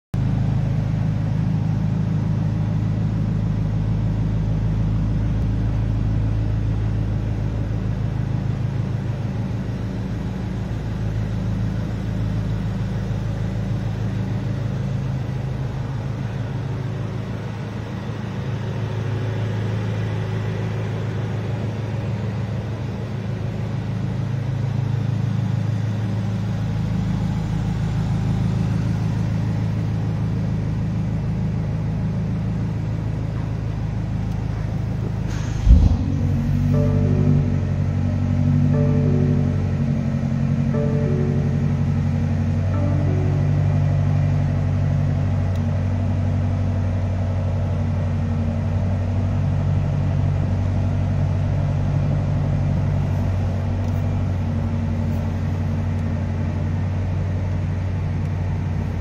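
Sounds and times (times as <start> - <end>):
car engine idling: 0.2 - 59.0.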